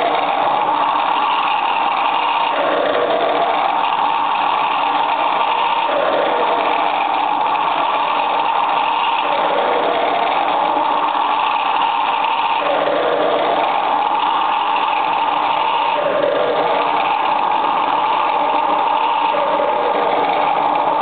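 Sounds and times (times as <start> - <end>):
loud wavering drone: 0.0 - 21.0.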